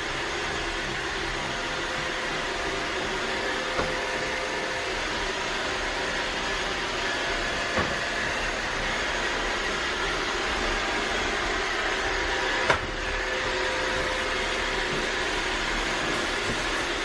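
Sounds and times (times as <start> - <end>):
vacuum cleaner whirring: 0.0 - 17.0.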